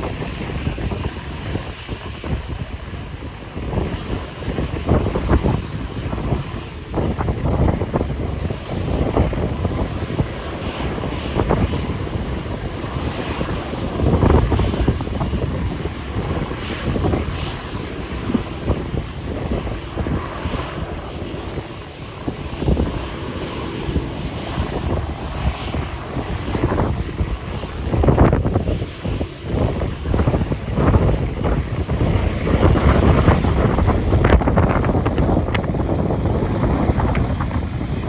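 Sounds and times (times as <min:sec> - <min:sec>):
airliner engine rumble: 0:00.0 - 0:38.0
wind buffeting microphone: 0:00.0 - 0:38.0.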